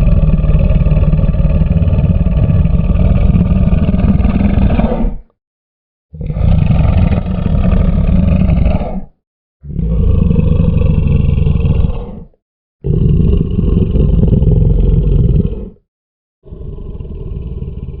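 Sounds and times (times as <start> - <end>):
crocodile growling: 0.0 - 5.2, 6.2 - 15.8, 16.4 - 18.0.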